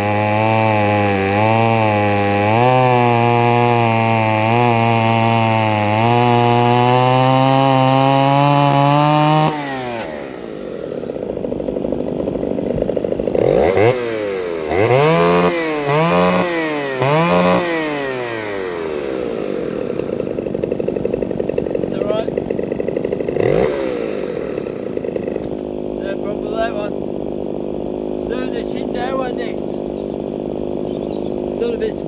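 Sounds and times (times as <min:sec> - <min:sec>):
chainsaw revving and idling: 0:00.0 - 0:32.0.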